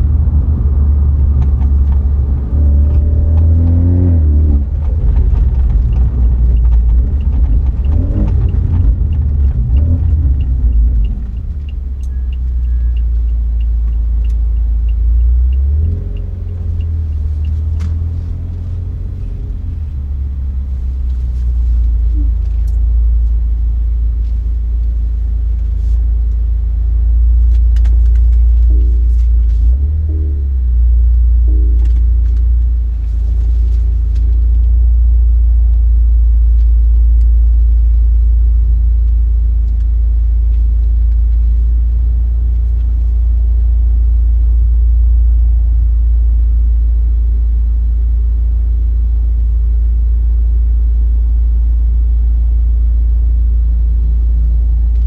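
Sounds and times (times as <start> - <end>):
turn signal ticking: 0.0 - 44.8
car engine exhaust rumble: 0.0 - 55.0.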